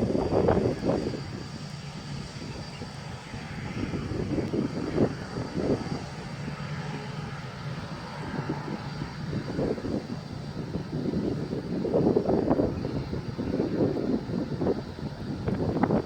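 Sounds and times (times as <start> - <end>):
jet engines whooshing: 0.0 - 16.0.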